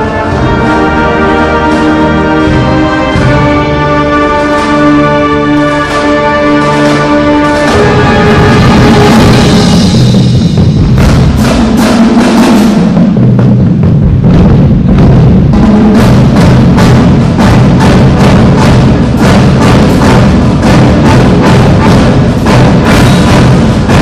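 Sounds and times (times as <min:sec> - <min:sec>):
drum strikes: 0:00.0 - 0:24.0
marching band playing: 0:00.0 - 0:24.0.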